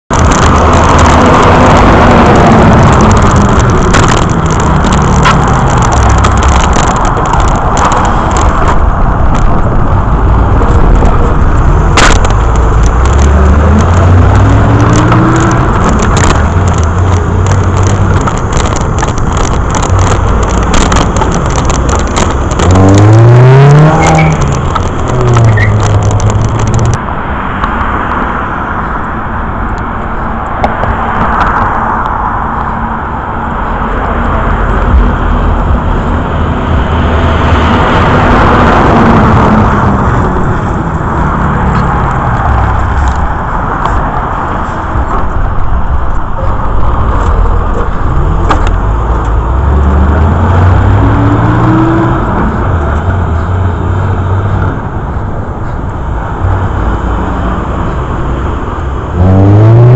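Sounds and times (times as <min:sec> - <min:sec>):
traffic and road noise: 0:00.0 - 0:59.9
car engine revving: 0:00.1 - 0:27.0, 0:30.9 - 0:59.9
car engines passing: 0:00.1 - 0:59.9.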